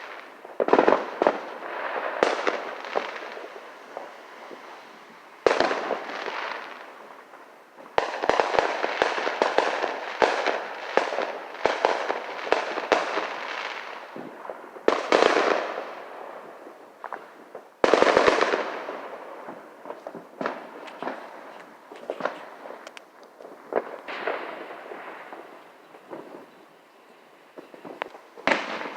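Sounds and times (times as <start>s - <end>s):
firework bangs: 0.0s - 28.9s
firework crackling: 0.0s - 28.9s.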